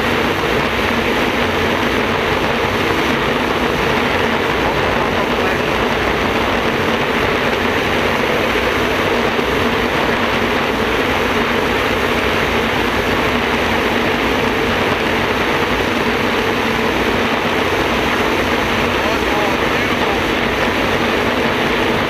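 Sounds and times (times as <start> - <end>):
jet boat engine roaring: 0.0 - 22.0.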